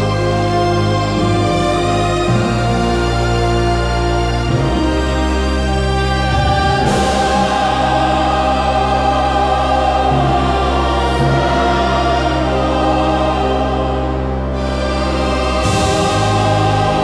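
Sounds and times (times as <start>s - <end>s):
dark orchestral music: 0.0s - 17.0s
female choir singing: 0.0s - 17.0s
low drone: 0.0s - 17.0s.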